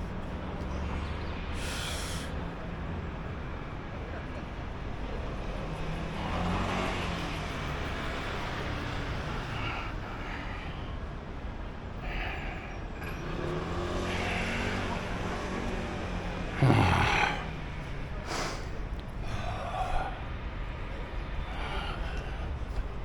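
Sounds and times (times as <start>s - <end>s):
motor vehicles passing: 0.0s - 23.0s.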